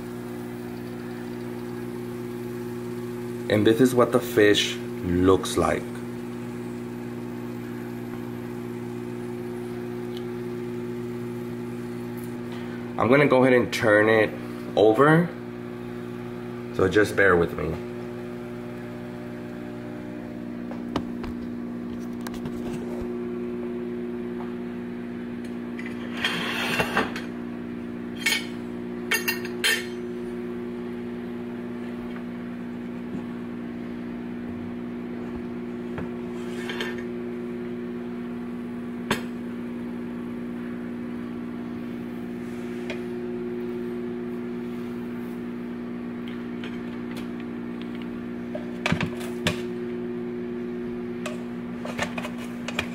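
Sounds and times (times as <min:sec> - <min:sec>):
steady electrical hum: 0:00.0 - 0:52.9.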